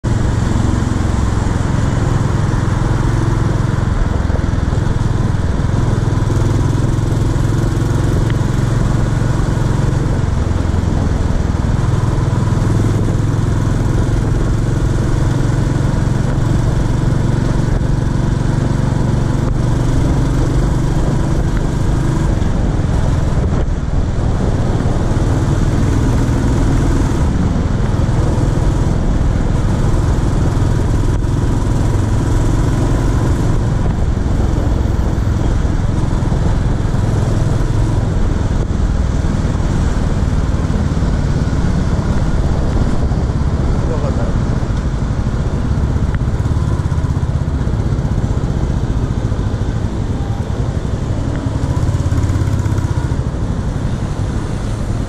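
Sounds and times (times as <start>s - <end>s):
road and wind noise: 0.0s - 55.0s
single-cylinder motorcycle engine: 0.0s - 55.0s.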